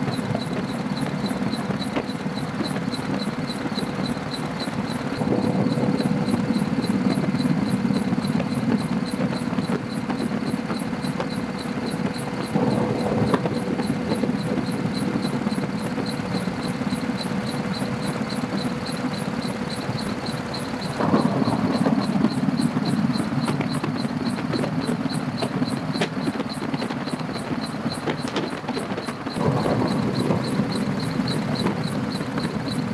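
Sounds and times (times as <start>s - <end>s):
faint rotor pulsing: 0.0s - 32.9s
faint whine: 0.0s - 32.9s
helicopter cabin drone: 0.0s - 32.9s.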